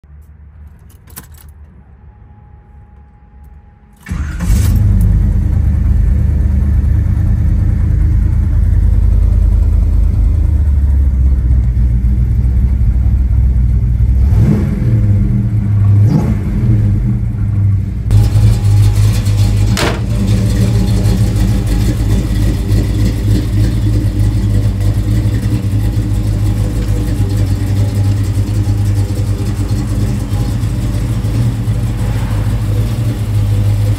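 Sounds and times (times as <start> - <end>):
car engine starting and idling: 0.2 - 33.9
car engine revving: 4.0 - 33.9.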